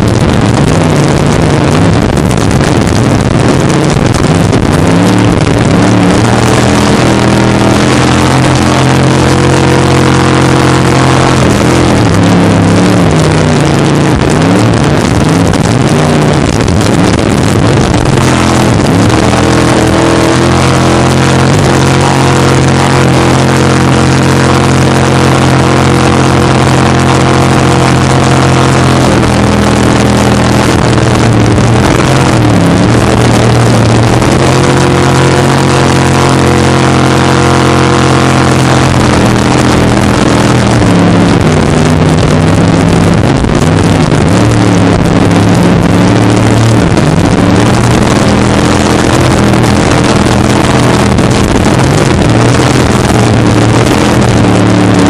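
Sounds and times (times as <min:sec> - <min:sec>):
jet boat engine revving: 0:00.0 - 0:55.0
water noise: 0:00.0 - 0:55.0
wind noise: 0:00.0 - 0:55.0.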